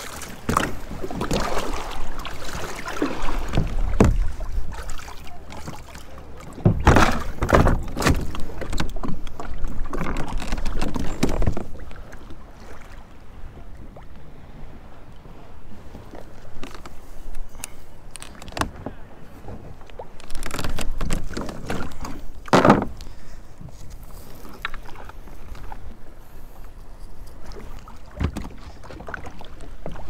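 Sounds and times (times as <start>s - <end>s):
paddle splashing in water: 0.0s - 14.6s, 18.4s - 30.0s.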